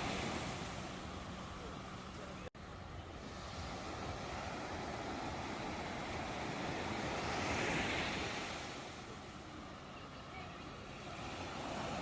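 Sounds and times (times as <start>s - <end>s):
waves washing on shore: 0.0s - 12.0s.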